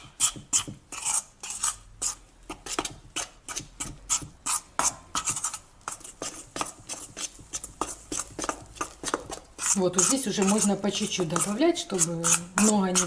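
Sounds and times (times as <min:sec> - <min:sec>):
spoon scraping steel bowl: 0:00.0 - 0:13.0.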